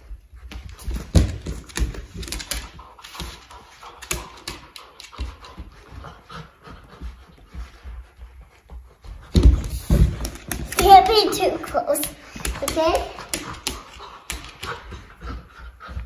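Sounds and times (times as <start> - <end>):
puppy panting: 0.0 - 16.0.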